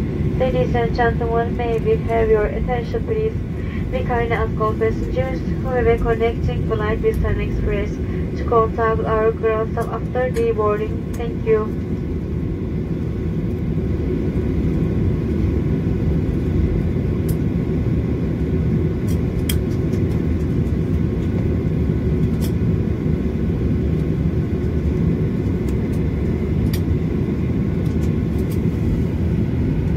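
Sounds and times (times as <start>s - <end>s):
aircraft cabin rumble: 0.0s - 29.9s.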